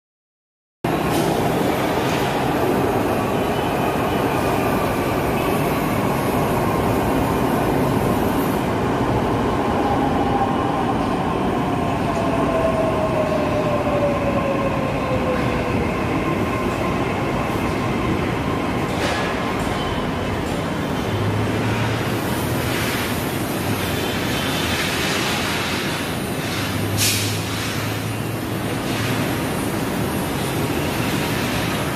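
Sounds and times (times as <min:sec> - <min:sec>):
metro train braking: 0:00.9 - 0:31.9
train rolling noise: 0:00.9 - 0:31.9.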